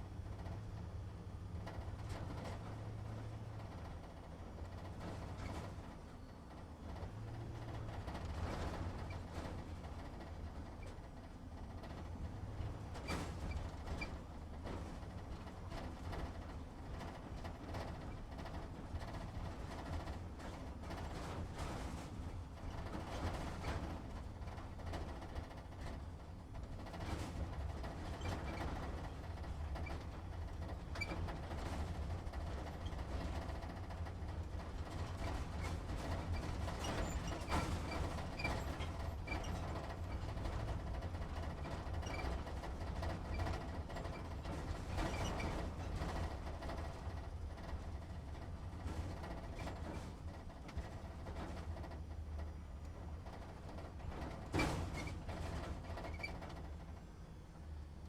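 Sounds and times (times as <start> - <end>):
cab creaks and rattles: 7.8 - 57.1.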